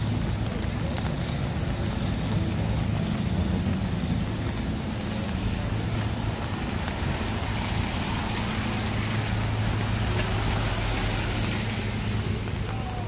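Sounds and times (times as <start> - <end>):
hiss of wet street: 0.0 - 13.0.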